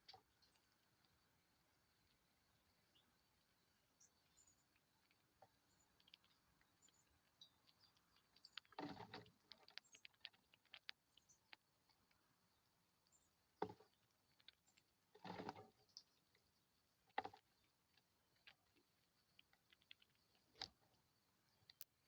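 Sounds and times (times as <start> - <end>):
small animals clicking and tapping: 2.0 - 22.0.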